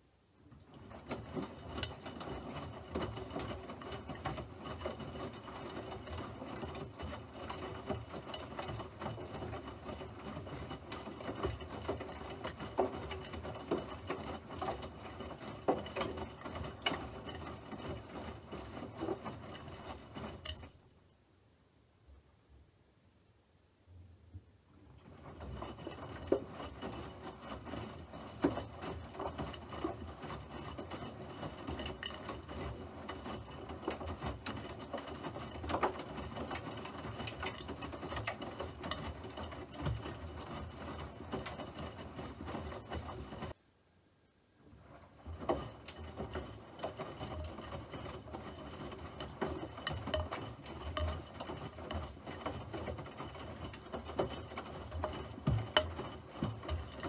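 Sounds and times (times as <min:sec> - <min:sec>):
small machine clattering: 0:00.5 - 0:20.8, 0:25.0 - 0:43.6, 0:45.2 - 0:57.0.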